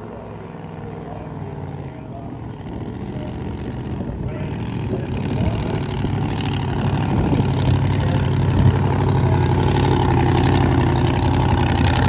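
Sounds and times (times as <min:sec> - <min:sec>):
racing boat engine running: 0:00.0 - 0:12.0.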